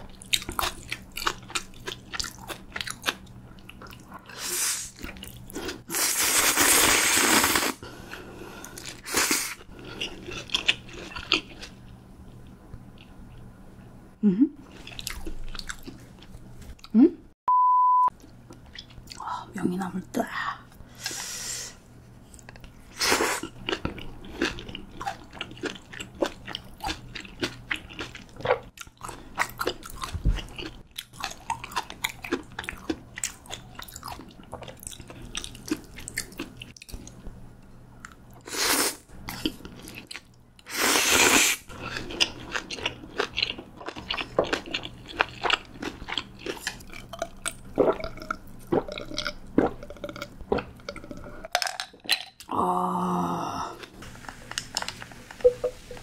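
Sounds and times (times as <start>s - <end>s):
chewing and crunching food: 0.0s - 5.9s, 7.2s - 13.5s, 14.6s - 17.0s, 18.2s - 19.3s, 22.1s - 37.4s, 39.1s - 40.7s, 41.7s - 55.2s.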